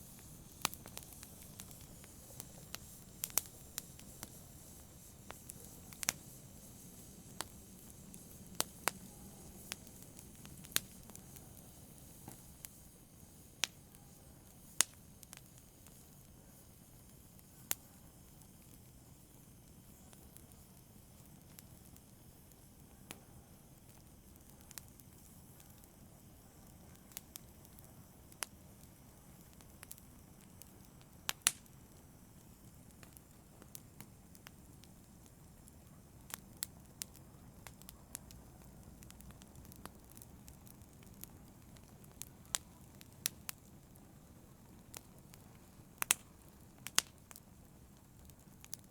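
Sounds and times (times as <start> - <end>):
low steady hiss: 0.0 - 48.9
wood fire crackling: 0.0 - 48.9.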